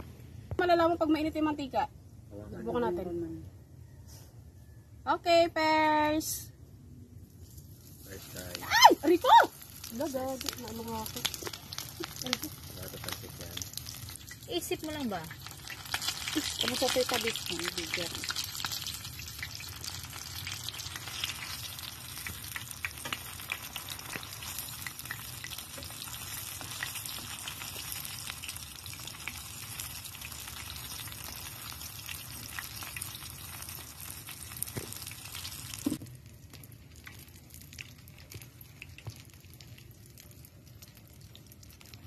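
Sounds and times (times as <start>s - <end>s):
food deep-frying in hot oil: 7.6s - 42.0s.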